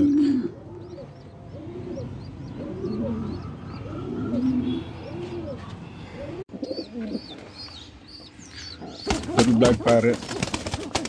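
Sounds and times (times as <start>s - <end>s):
pigeons cooing: 0.0s - 7.4s, 8.6s - 11.0s.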